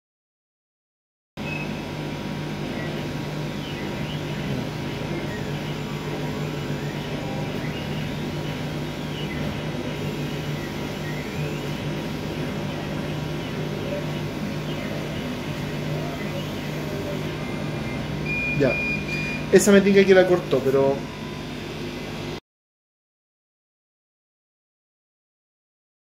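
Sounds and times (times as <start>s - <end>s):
cutting head whining: 1.4s - 22.4s
laser cutting machine humming: 1.4s - 22.4s.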